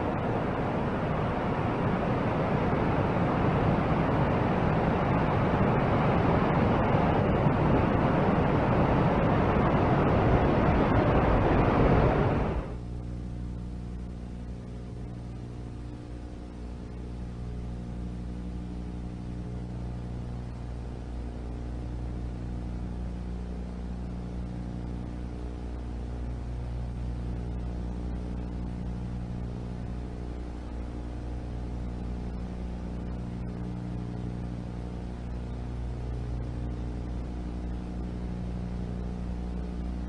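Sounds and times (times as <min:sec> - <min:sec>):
low droning hum: 0:00.0 - 0:40.0.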